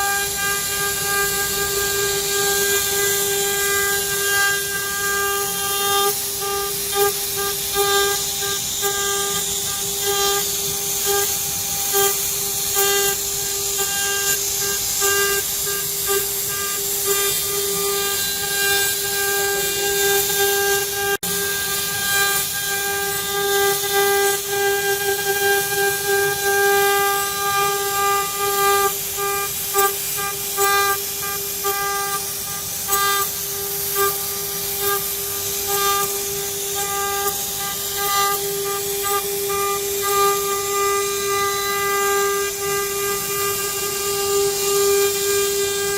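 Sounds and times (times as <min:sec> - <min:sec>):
high hiss of cutting metal: 0:00.0 - 0:45.9
router spindle whining: 0:00.0 - 0:45.9.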